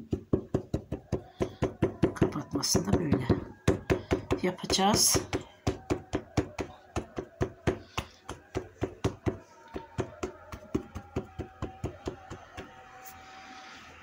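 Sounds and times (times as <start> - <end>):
fingertips knocking dough on tabletop: 0.0 - 12.7.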